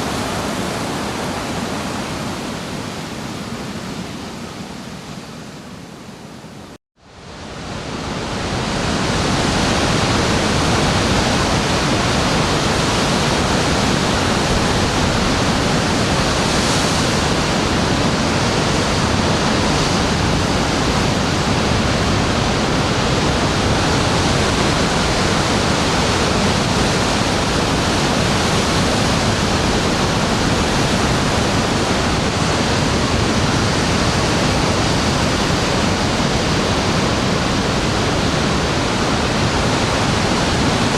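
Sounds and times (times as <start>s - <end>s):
ocean surf rushing: 0.0s - 40.9s.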